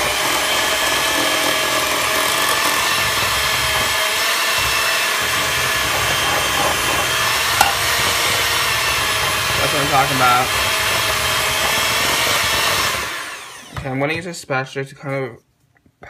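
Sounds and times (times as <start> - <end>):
electric hand mixer running: 0.0 - 13.9.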